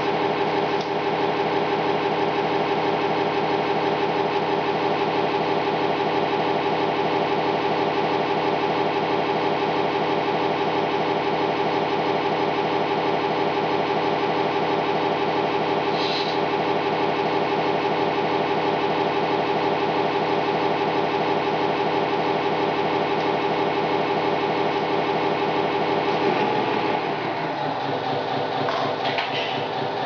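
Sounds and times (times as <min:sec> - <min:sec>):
model truck motor humming: 0:00.0 - 0:30.0.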